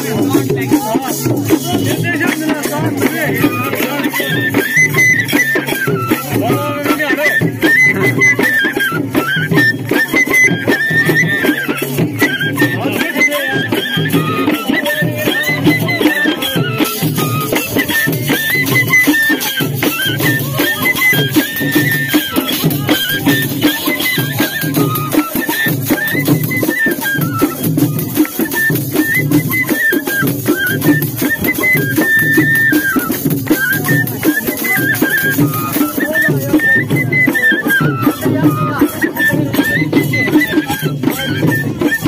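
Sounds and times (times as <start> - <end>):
drums beating steady rhythm: 0.0 - 42.0.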